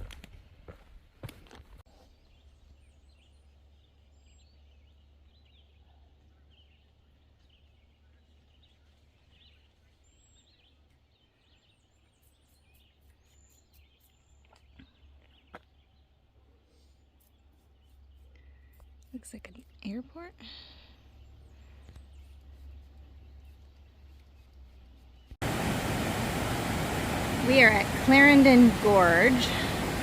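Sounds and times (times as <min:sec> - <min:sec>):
faint birds chirping: 0:01.9 - 0:30.0.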